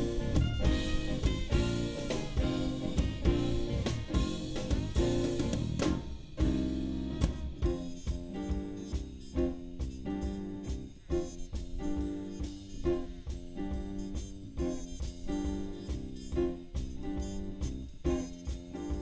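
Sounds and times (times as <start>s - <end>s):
drum kit beat: 0.0s - 19.0s
keyboard: 0.0s - 19.0s
saxophone: 0.0s - 19.0s.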